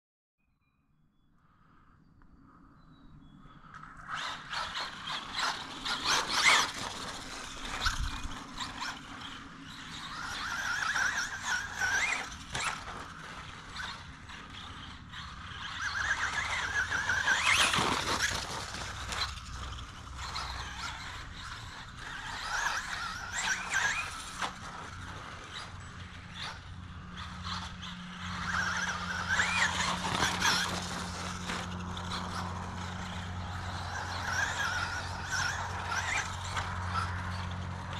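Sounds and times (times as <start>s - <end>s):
electric motor whining: 4.1s - 37.9s.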